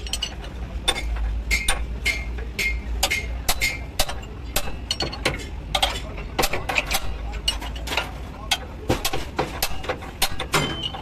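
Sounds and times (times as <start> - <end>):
hammer striking metal spanner: 0.0 - 11.0.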